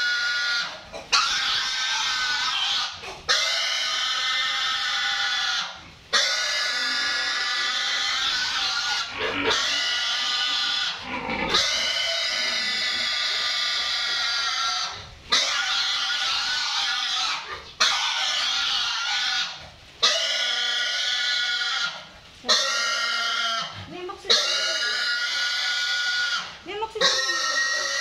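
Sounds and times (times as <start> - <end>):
pig squealing in distress: 0.0 - 28.0.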